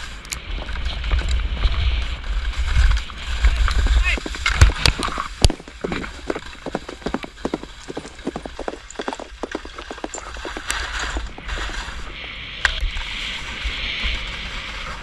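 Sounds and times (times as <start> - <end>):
hoofbeats on packed snow: 0.0 - 15.0.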